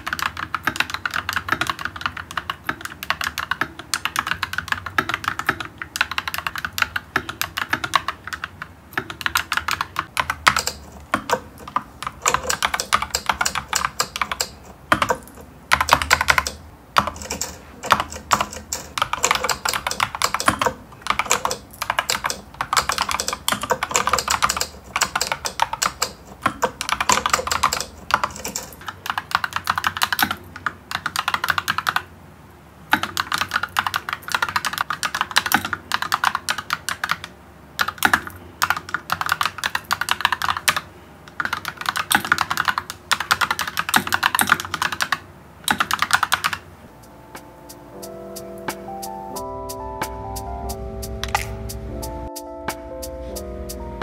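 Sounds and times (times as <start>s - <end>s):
mechanical keyboard typing: 0.0s - 32.1s, 32.9s - 46.6s.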